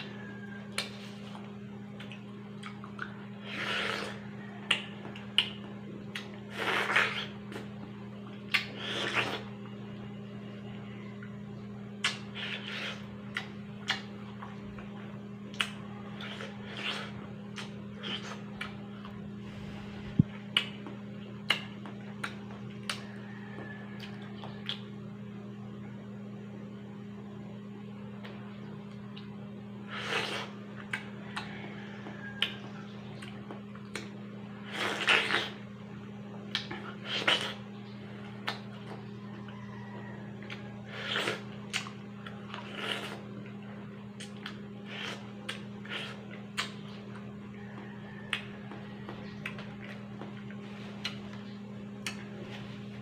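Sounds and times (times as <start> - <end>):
low hum: 0.0 - 53.0
wet slurping and chewing: 0.7 - 9.8, 12.0 - 24.9, 29.1 - 35.7, 36.5 - 53.0.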